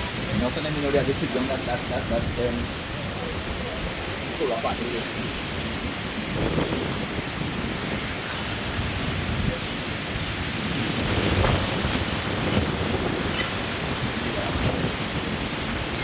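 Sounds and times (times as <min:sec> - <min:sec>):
wind gusts buffeting microphone: 0:00.0 - 0:16.0.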